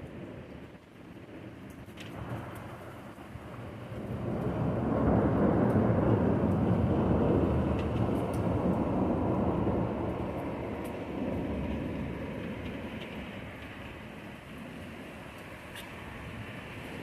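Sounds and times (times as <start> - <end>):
rolling thunder: 0.0 - 15.2.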